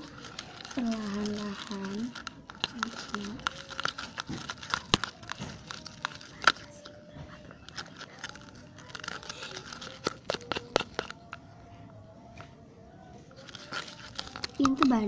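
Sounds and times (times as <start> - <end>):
slime stirred with sticky crackling: 0.0 - 11.5, 13.3 - 15.0.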